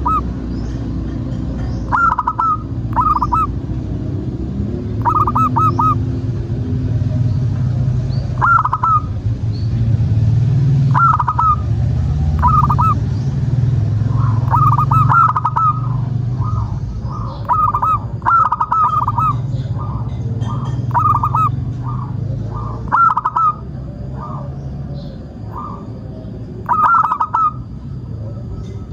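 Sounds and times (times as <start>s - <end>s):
doves cooing: 0.0s - 7.1s, 7.7s - 9.2s, 10.6s - 28.9s
steady low rumble: 0.0s - 28.9s.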